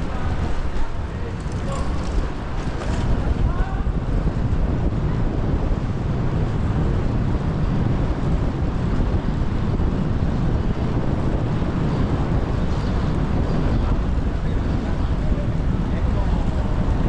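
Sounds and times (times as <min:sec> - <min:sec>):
traffic noise: 0:00.0 - 0:17.0
wind buffeting microphone: 0:00.0 - 0:17.0.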